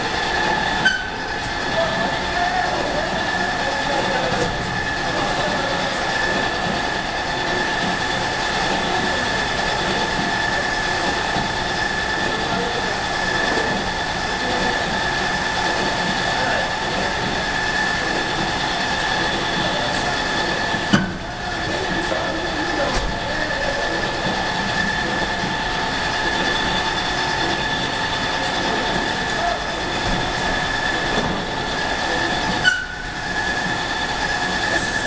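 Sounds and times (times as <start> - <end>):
belt conveyor running: 0.0 - 35.0
high whine from drive: 0.0 - 35.0.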